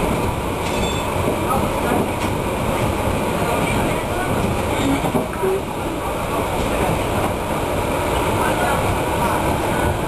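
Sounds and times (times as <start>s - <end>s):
tram wheels rumbling on rail: 0.0s - 10.0s.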